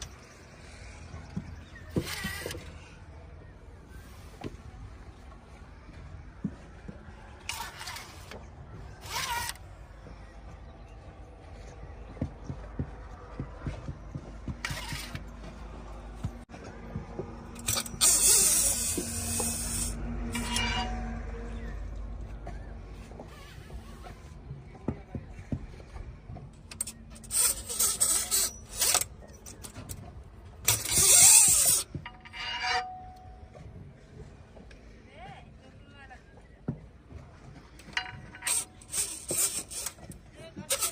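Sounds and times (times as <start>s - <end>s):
diesel machinery rumbling: 0.0s - 35.4s.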